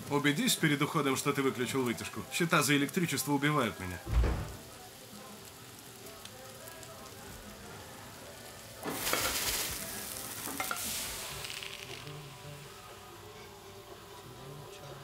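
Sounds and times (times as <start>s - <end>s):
food sizzling in a hot pan: 0.0s - 15.0s.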